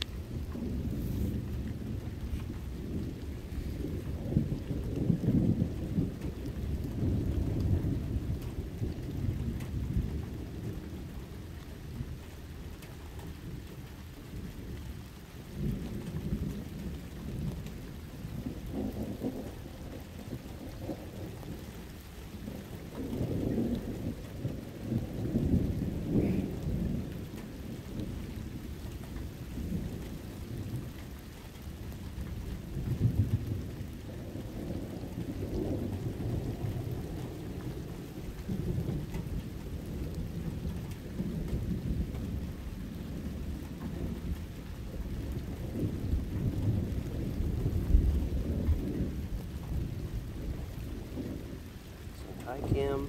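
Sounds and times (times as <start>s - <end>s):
distant thunder rumbling: 0.0s - 53.0s
rain falling: 0.0s - 53.0s.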